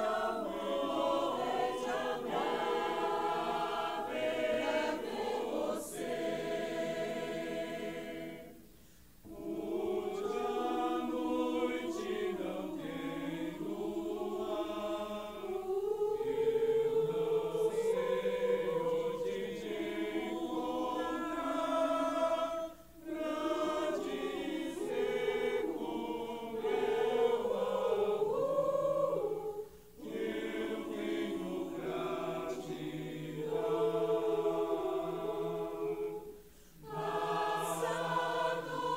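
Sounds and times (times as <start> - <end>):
choir singing a slow song: 0.0 - 38.9.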